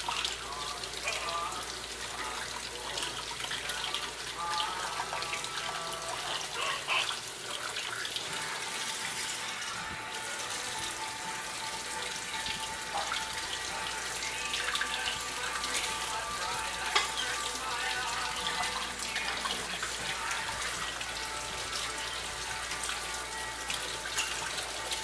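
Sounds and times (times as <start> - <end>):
tap water running into sink: 0.0 - 25.0.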